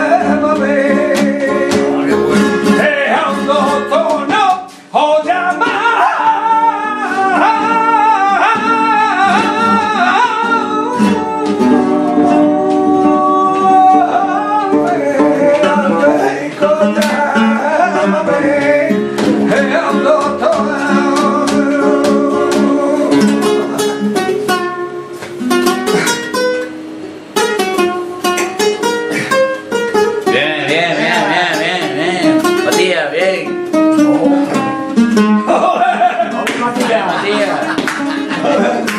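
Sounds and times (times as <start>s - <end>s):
man singing flamenco: 0.0s - 26.7s, 28.4s - 38.9s
flamenco guitar: 0.0s - 38.9s.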